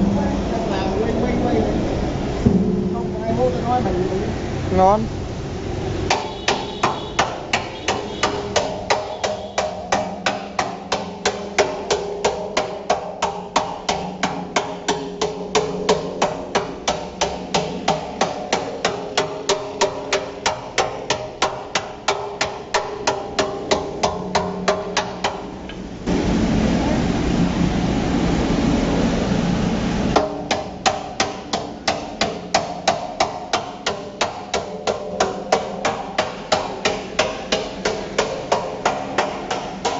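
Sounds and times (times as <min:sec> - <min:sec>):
hammer striking steel drum: 0:02.4 - 0:04.7, 0:06.0 - 0:27.0, 0:30.1 - 0:39.9.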